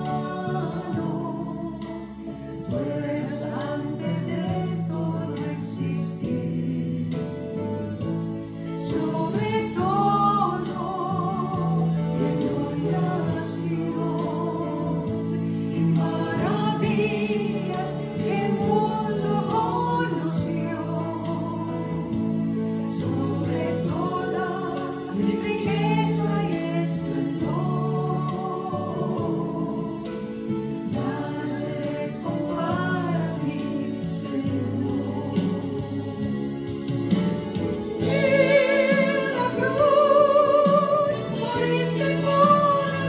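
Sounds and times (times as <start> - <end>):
person singing with vibrato: 0.0 - 43.0.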